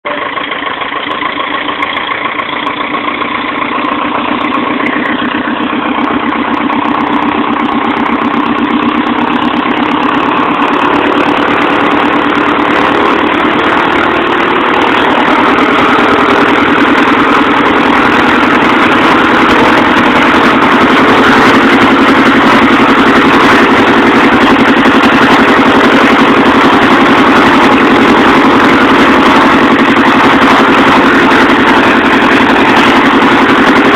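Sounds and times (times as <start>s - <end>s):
airplane engine and propeller running: 0.0s - 33.9s.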